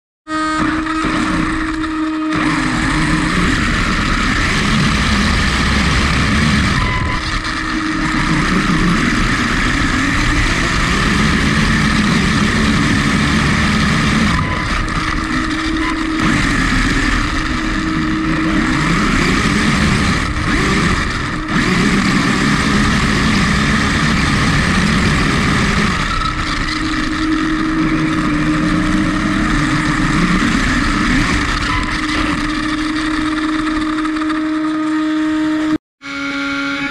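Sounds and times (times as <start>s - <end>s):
toy car electric motor whine: 0.3s - 36.9s.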